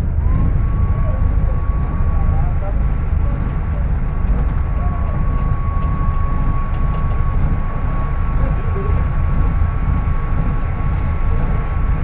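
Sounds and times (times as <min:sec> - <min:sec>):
bus engine drone: 0:00.0 - 0:12.0
high-pitched engine whine: 0:00.0 - 0:12.0.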